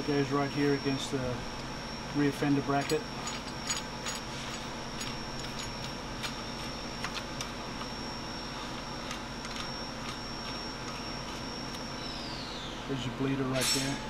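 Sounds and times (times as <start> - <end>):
faint high whine: 0.0 - 14.0
steady background hum: 0.0 - 14.0.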